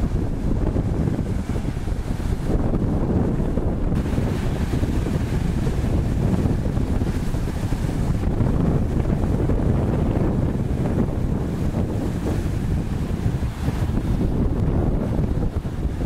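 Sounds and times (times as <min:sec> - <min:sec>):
water and spray: 0:00.0 - 0:16.0
wind buffeting microphone: 0:00.0 - 0:16.0.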